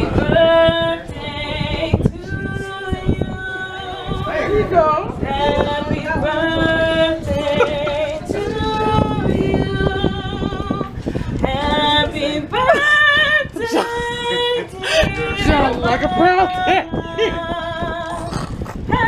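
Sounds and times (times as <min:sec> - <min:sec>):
woman singing with vibrato: 0:00.0 - 0:19.0.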